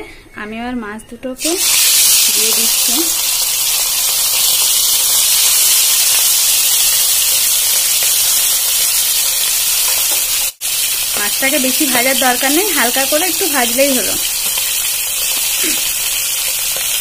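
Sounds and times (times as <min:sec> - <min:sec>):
fish sizzling in hot oil: 0:01.4 - 0:17.0.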